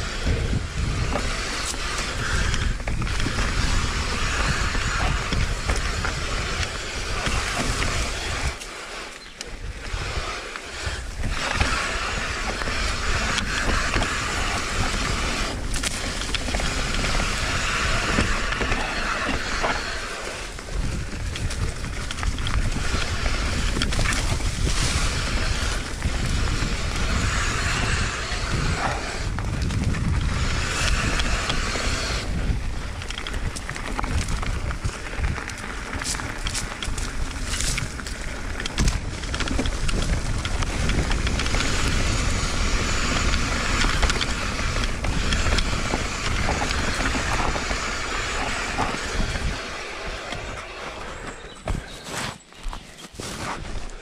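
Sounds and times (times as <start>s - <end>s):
wind rushing over microphone: 0.0s - 52.3s
bike tyres rolling on dirt: 0.0s - 54.0s.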